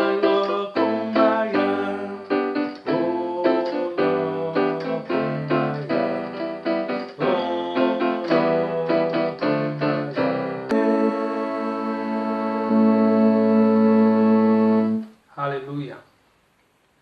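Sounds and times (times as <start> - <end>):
piano chords: 0.0 - 15.1.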